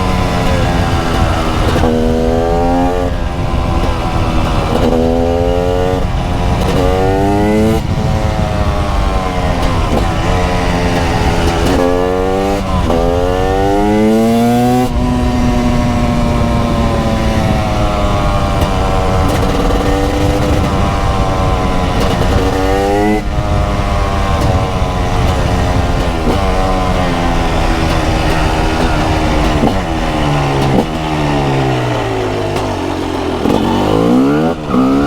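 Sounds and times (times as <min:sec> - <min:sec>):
two-stroke motorcycle accelerating: 0:00.0 - 0:35.0.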